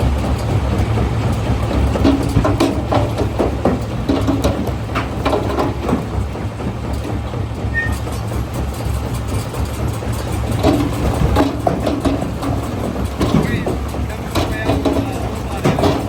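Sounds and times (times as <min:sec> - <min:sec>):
crusher machine drone: 0:00.0 - 0:16.0.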